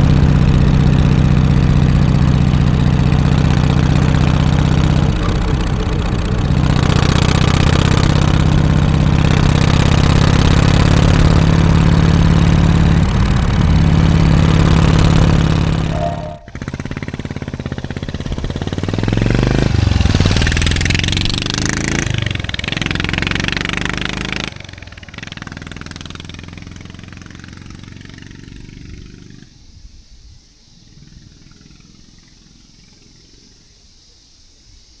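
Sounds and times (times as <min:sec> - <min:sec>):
engine rising and falling: 0:00.0 - 0:29.4
motorcycle engine idling: 0:00.0 - 0:29.5.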